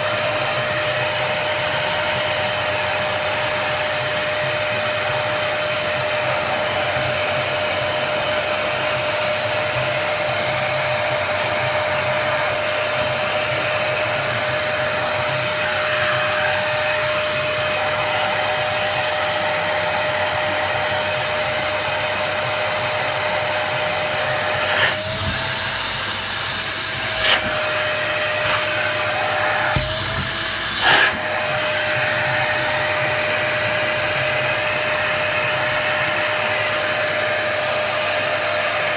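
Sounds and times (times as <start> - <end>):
electric fan whining: 0.0 - 38.0.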